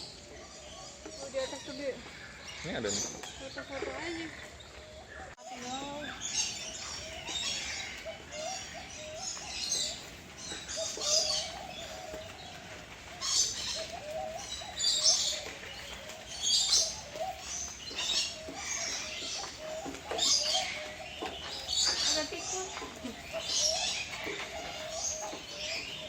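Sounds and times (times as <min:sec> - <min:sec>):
lower wavering bird calls: 0:00.0 - 0:26.0.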